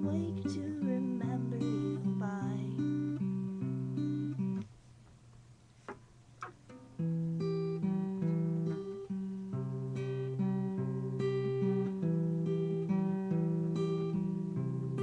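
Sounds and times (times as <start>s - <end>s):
acoustic guitar chords: 0.0s - 4.8s, 6.4s - 15.0s.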